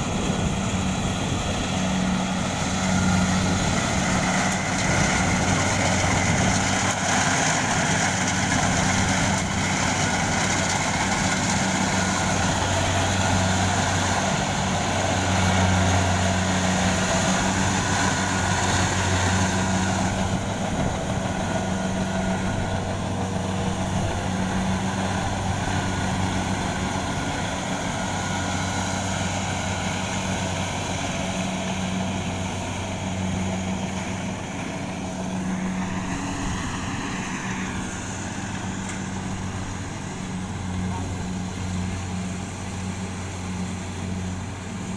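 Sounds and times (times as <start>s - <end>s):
combine harvester engine humming: 0.0s - 44.9s.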